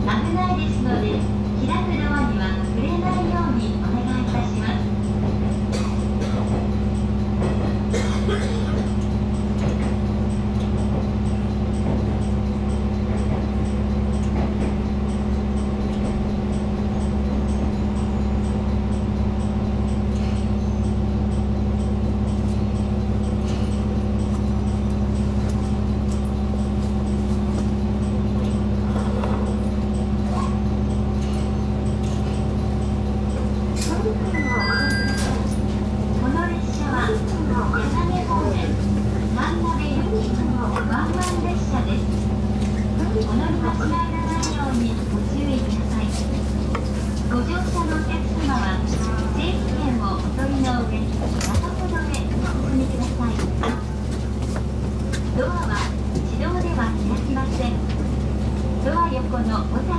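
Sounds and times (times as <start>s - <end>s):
diesel railcar engine hum: 0.0s - 59.9s.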